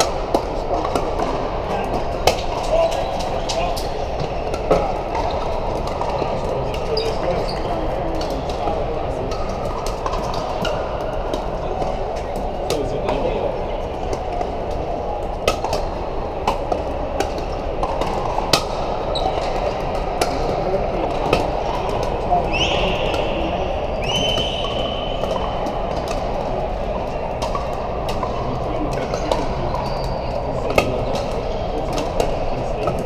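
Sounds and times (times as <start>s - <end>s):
crowd chatter in a hall: 0.0s - 33.0s.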